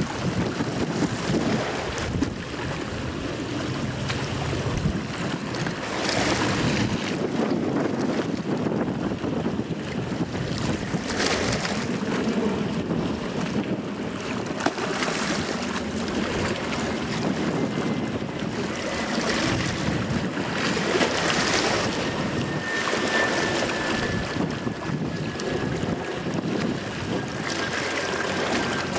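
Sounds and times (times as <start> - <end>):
choppy water: 0.0 - 28.9
wind rushing on microphone: 0.0 - 28.9.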